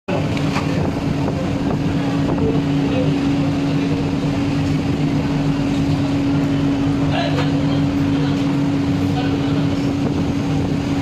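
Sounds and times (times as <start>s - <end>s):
industrial laundry machinery humming: 0.1s - 11.0s.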